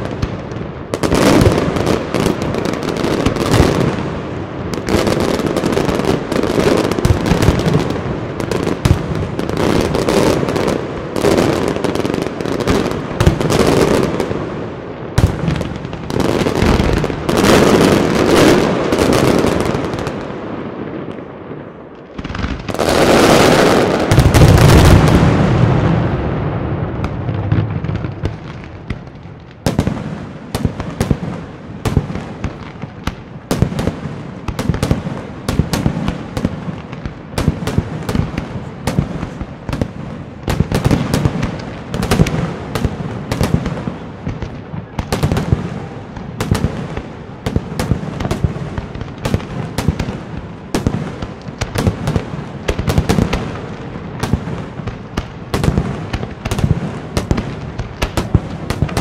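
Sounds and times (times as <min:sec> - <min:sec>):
fireworks cracking: 0:00.0 - 0:59.0.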